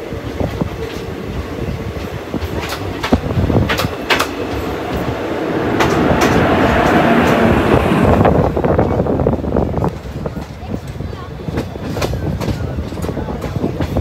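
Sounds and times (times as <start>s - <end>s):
train rumble: 0.0s - 14.0s
train wheels clacking over rail joints: 0.2s - 14.0s.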